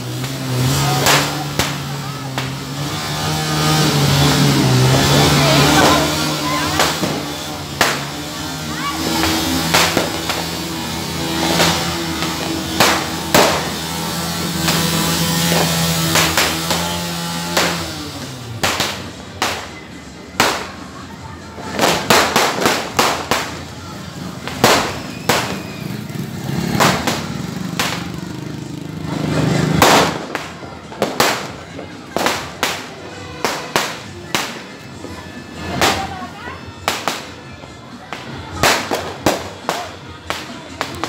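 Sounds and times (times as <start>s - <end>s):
firecrackers banging: 0.0s - 41.0s.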